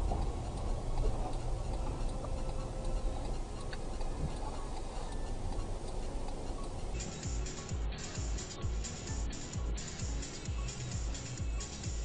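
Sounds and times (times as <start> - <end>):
engine and road rumble: 0.0 - 12.0
light ticking in car cabin: 0.0 - 12.0.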